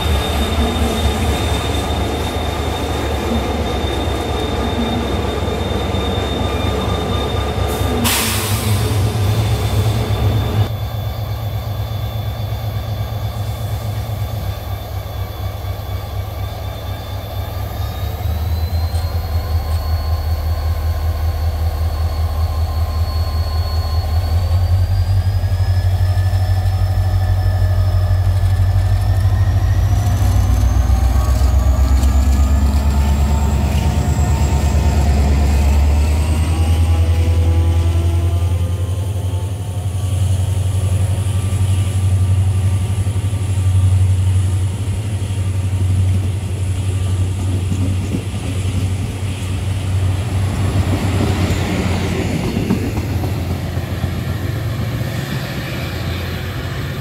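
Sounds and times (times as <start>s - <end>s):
diesel locomotive engine rumble: 0.0s - 57.0s
train wheels rolling on rails: 0.0s - 57.0s.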